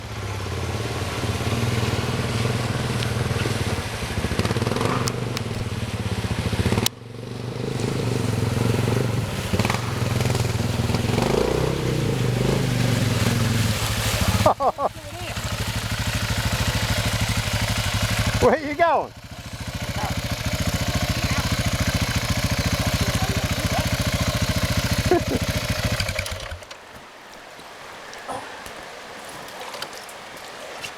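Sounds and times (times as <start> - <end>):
vehicle engine running: 0.0 - 26.7.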